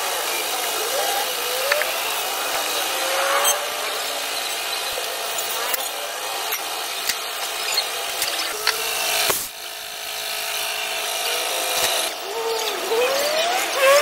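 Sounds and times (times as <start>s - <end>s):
power tool running: 0.0s - 14.0s.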